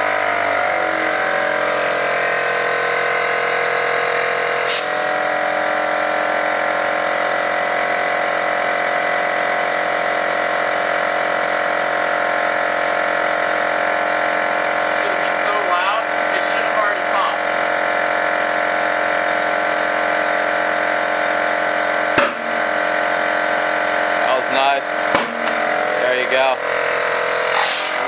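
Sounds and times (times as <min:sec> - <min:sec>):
small motor buzzing hum: 0:00.0 - 0:28.0.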